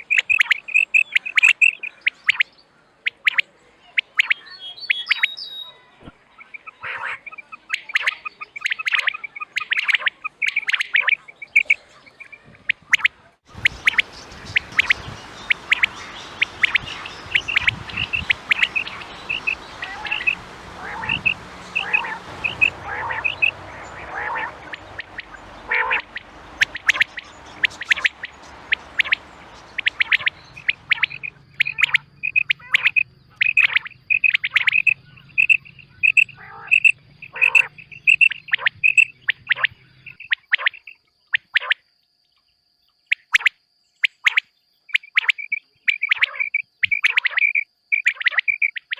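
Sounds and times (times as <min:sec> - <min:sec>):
quail chirping calls: 0:00.0 - 0:05.8, 0:06.4 - 0:41.0, 0:43.1 - 0:48.9.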